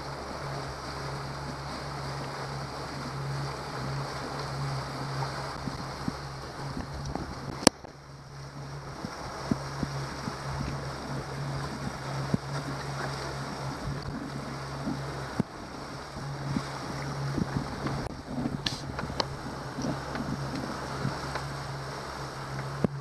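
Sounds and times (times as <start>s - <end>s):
outboard motor running: 0.0s - 23.0s
water rushing past hull: 0.0s - 23.0s
wind on microphone: 0.0s - 23.0s.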